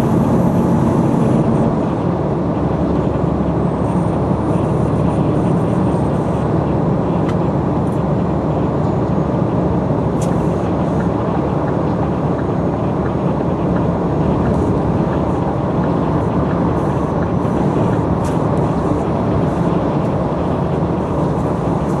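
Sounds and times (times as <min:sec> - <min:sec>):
road and tyre noise: 0:00.0 - 0:22.0
truck engine drone: 0:00.0 - 0:22.0.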